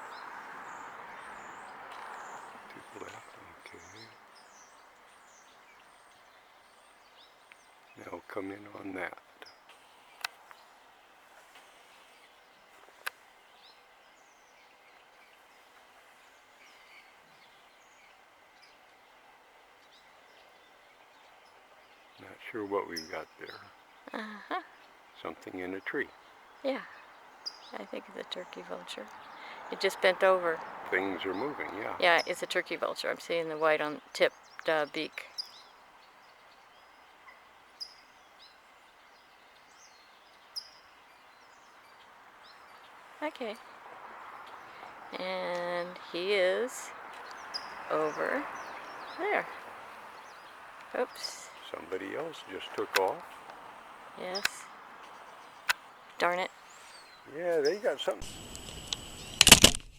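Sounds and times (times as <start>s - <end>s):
faint bird chirps: 0.0s - 19.0s, 19.8s - 59.4s
faint outdoor hiss: 0.0s - 59.9s.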